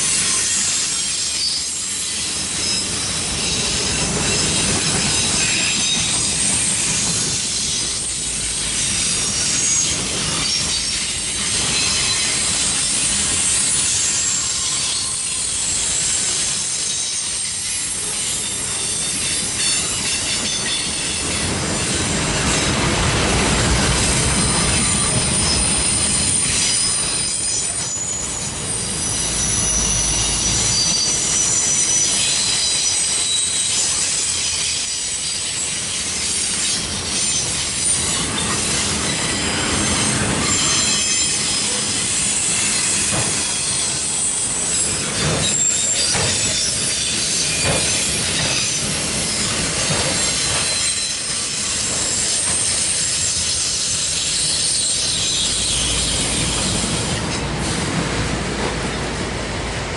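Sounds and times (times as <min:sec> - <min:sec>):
train wheels rumbling on rail: 0:00.0 - 0:59.9
high-pitched wheel squeals: 0:00.1 - 0:22.6, 0:24.1 - 0:57.4.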